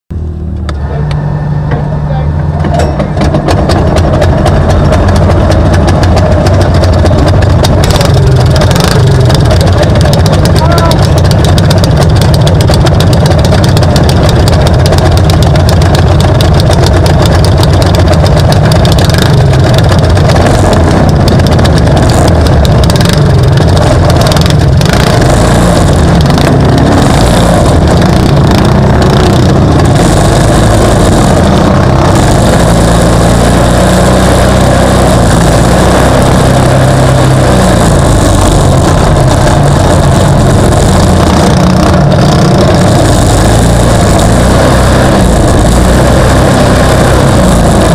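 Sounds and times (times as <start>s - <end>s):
race vehicle engine running: 0.0s - 47.9s.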